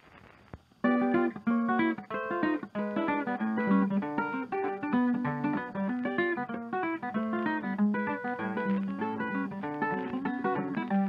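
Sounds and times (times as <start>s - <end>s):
acoustic guitar picked melody: 0.8s - 11.0s.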